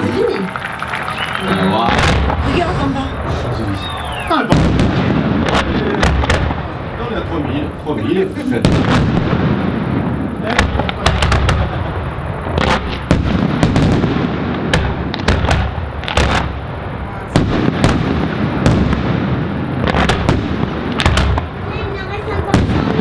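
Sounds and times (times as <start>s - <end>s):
deep rumble of explosions: 0.0s - 23.0s
fireworks bursting with sharp bangs: 0.0s - 23.0s.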